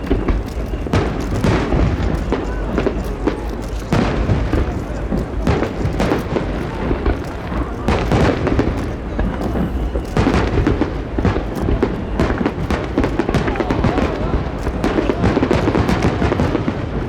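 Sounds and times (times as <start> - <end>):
continuous low rumble: 0.0 - 17.0
fireworks booming and crackling: 0.0 - 17.0.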